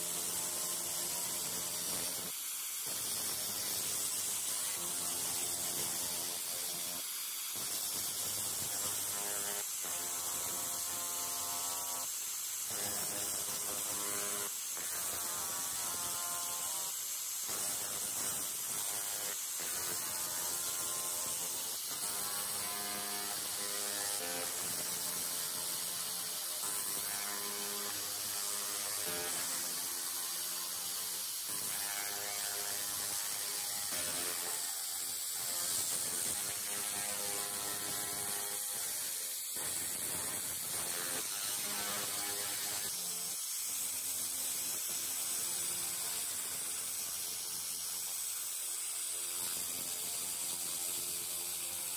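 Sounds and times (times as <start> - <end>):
laser cleaner crackling and hissing: 0.0 - 51.9.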